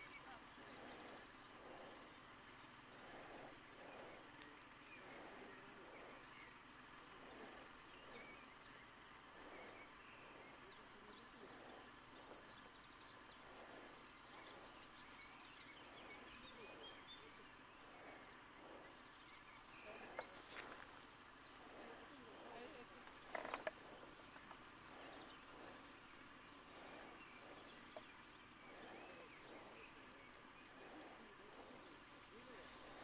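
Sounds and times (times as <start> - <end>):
small birds chirping: 0.0 - 33.0
soft steady hiss: 0.0 - 33.0.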